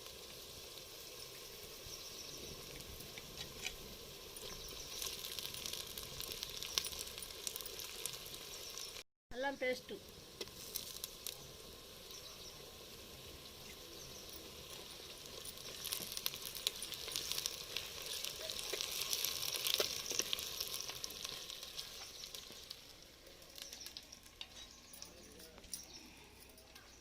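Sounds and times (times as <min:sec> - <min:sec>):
frying sizzle in hot oil: 0:00.0 - 0:26.0.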